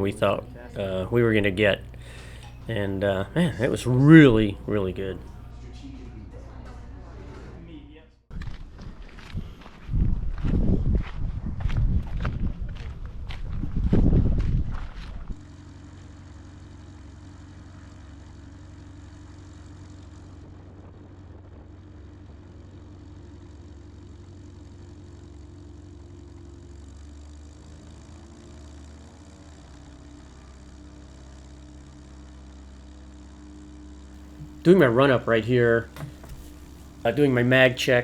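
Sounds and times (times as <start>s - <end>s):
light aircraft engine running: 0.0s - 38.0s.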